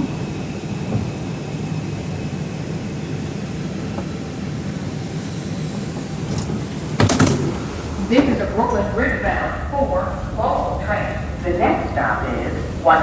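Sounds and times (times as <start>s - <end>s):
subway car hum: 0.0s - 13.0s.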